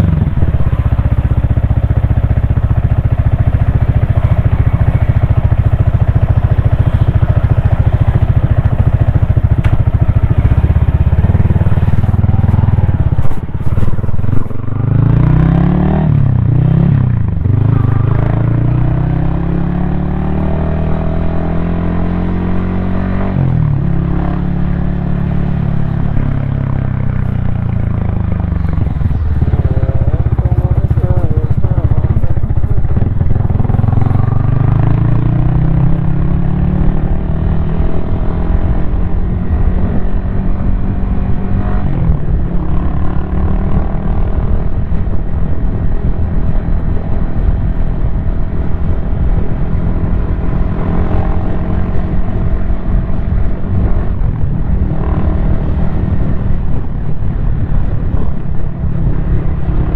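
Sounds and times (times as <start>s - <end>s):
motorcycle engine running: 0.0s - 59.9s
rush of wind noise: 0.0s - 59.9s.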